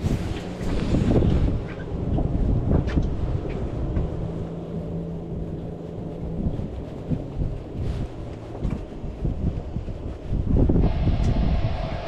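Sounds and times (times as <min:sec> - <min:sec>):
low hum: 0:00.0 - 0:12.0
wind buffeting microphone: 0:00.0 - 0:12.0.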